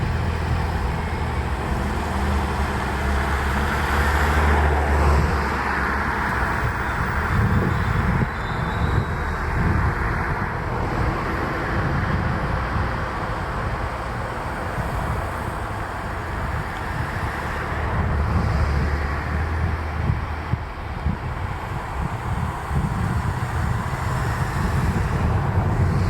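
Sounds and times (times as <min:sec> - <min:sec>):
diesel engine drone: 0:00.0 - 0:26.0
wheel and rail rumble: 0:00.0 - 0:26.0.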